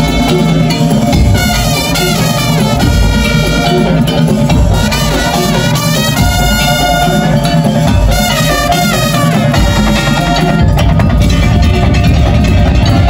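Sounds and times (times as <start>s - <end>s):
heavy drums and percussion: 0.0s - 13.0s.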